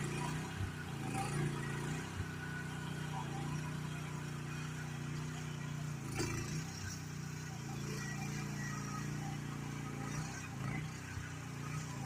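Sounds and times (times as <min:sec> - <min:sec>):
mini excavator engine running: 0:00.0 - 0:12.0.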